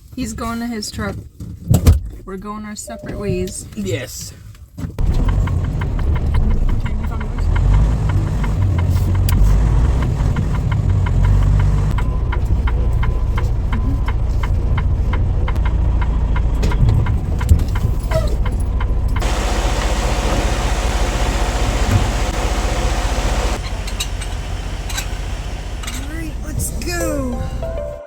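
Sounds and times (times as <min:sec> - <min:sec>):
diesel truck engine idling: 0:05.0 - 0:28.0.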